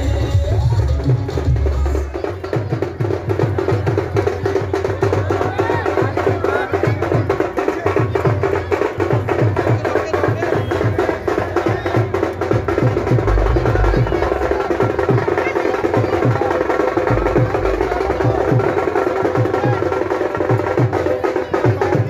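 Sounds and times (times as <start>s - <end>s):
quick drum beat: 0.0s - 22.0s.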